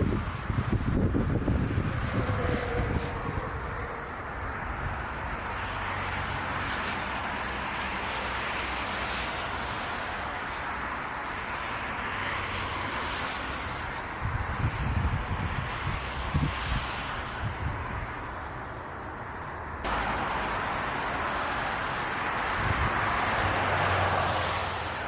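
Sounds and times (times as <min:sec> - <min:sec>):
distant jet engines rushing: 0:00.0 - 0:25.0.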